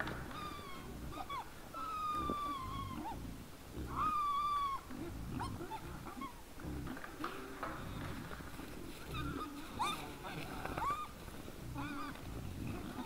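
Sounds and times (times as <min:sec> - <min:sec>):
wild boars squealing: 0:00.0 - 0:13.0.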